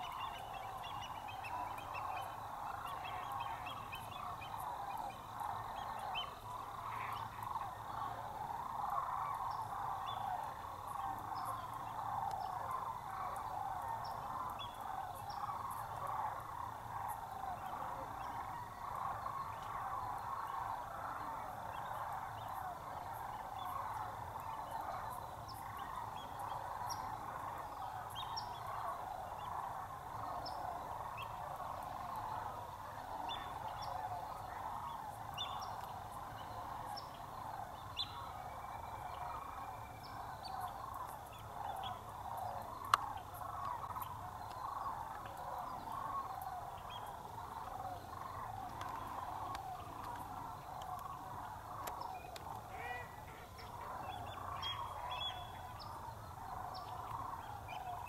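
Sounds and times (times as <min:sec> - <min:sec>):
flock of birds calling: 0:00.0 - 0:58.0.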